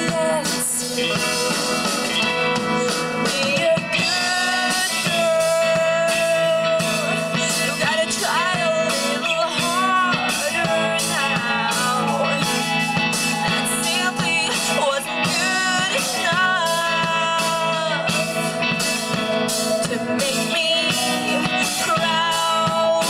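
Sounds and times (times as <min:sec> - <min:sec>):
person singing: 0:00.0 - 0:23.0
rock band playing live: 0:00.0 - 0:23.0.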